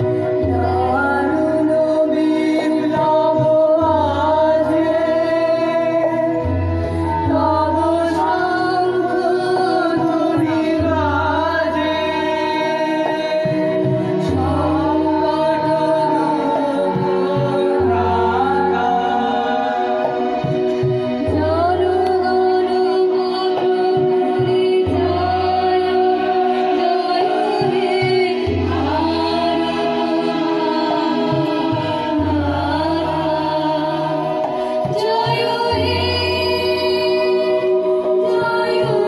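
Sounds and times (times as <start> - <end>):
harmonium chords: 0.0 - 39.0
voices singing slow melody: 0.0 - 39.0.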